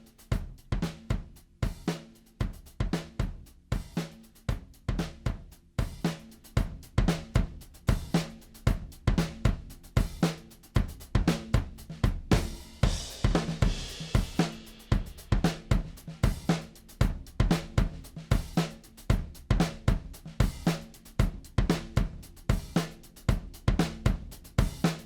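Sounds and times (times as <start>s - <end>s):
drum kit beat: 0.0s - 25.0s.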